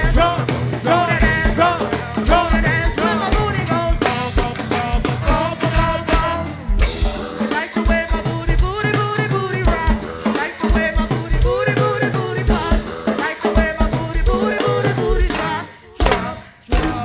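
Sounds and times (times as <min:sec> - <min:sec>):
drum kit groove: 0:00.0 - 0:17.0
funk music: 0:00.0 - 0:17.0
pitched lead line: 0:00.0 - 0:17.0.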